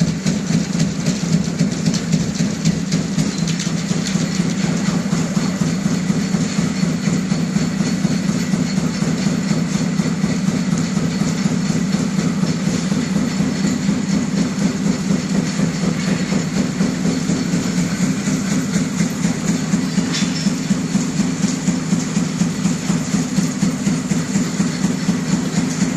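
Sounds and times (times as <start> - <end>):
fast even clatter: 0.0 - 25.9
machinery low hum: 0.0 - 25.9.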